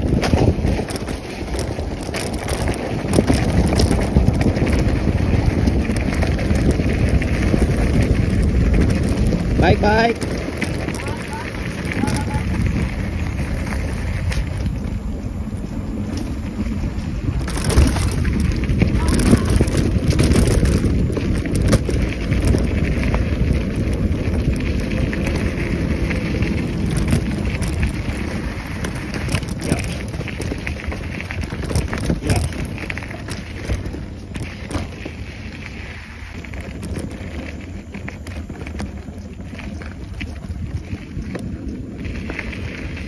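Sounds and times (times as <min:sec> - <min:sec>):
bike knocks and rattles: 0:00.0 - 0:43.0
bike tyres rumbling on dirt: 0:00.0 - 0:43.0
wind buffeting microphone: 0:00.0 - 0:43.0.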